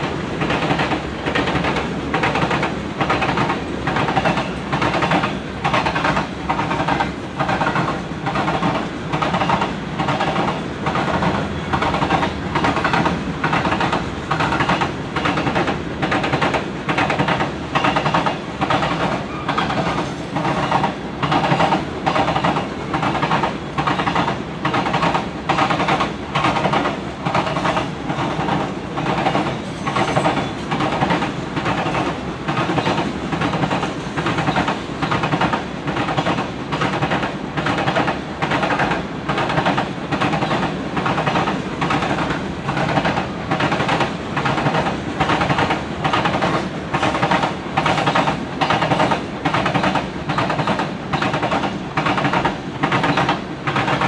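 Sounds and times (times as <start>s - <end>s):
train wheels rumbling on rails: 0.0s - 54.0s
wheels clickety-clack on rail joints: 0.0s - 54.0s.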